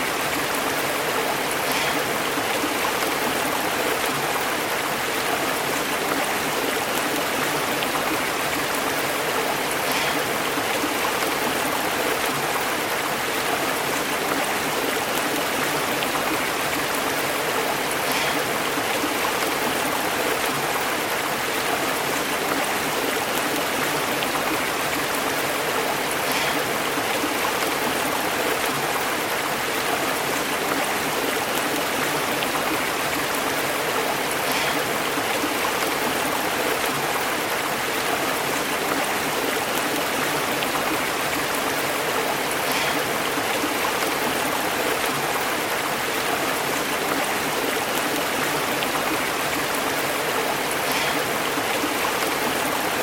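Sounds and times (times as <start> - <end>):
stream burbling over rocks: 0.0 - 53.0.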